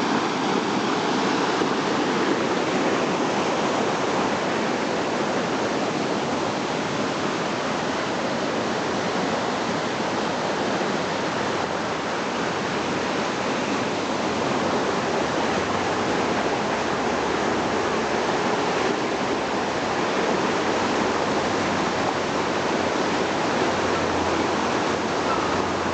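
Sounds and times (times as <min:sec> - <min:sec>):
rushing floodwater roar: 0:00.0 - 0:25.9.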